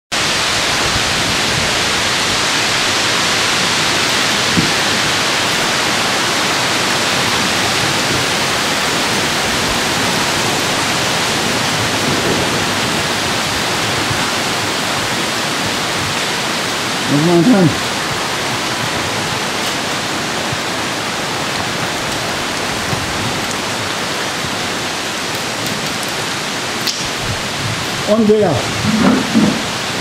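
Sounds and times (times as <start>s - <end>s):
heavy rain pouring: 0.1s - 30.0s.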